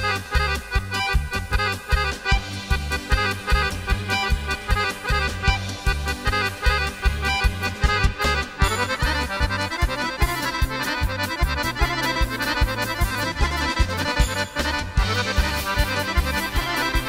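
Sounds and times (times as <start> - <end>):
accordion dance tune: 0.0 - 17.0.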